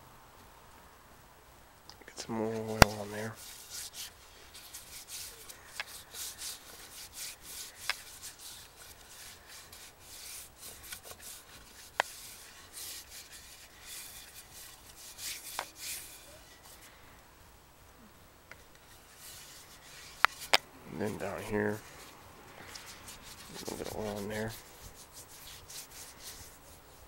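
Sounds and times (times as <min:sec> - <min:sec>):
hands rubbing wood: 0:02.2 - 0:17.0, 0:18.5 - 0:27.0.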